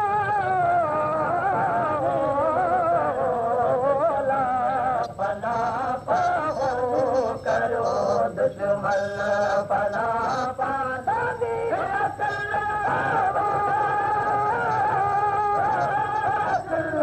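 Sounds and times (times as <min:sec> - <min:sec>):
men singing devotional song: 0:00.0 - 0:17.0.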